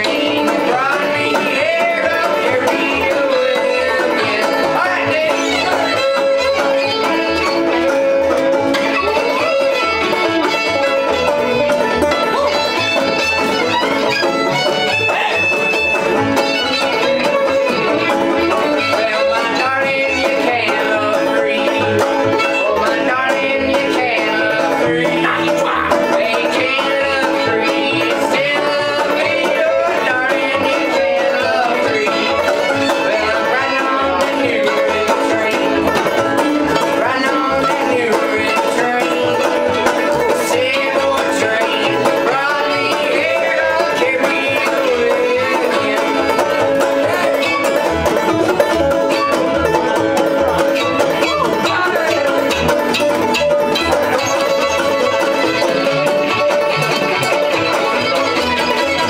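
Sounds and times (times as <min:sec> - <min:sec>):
bluegrass string band playing: 0:00.0 - 0:59.0.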